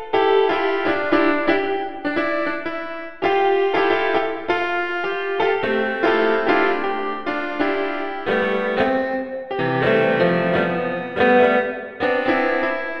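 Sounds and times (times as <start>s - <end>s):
piano chords and melody: 0.0s - 13.0s.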